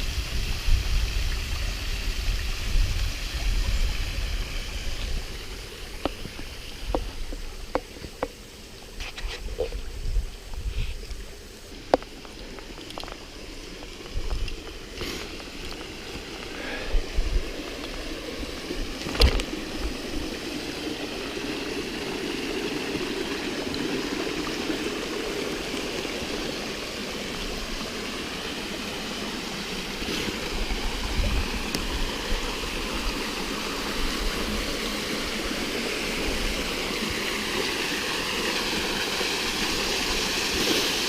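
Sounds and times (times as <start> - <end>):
small waterfall and stream: 0.0 - 41.0.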